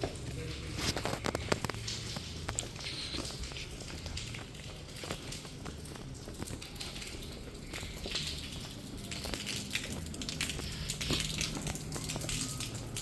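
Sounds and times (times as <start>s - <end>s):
footsteps on a wet road: 0.0s - 13.0s.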